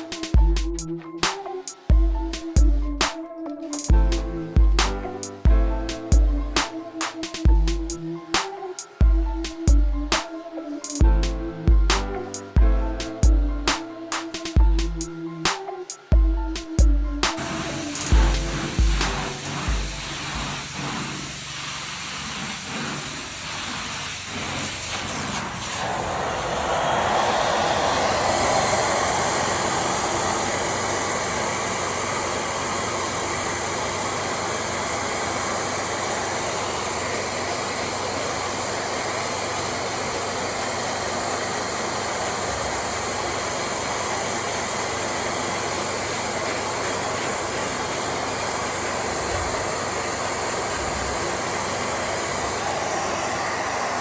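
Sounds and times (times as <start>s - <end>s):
carpet cleaning machine hissing: 0.0s - 54.0s.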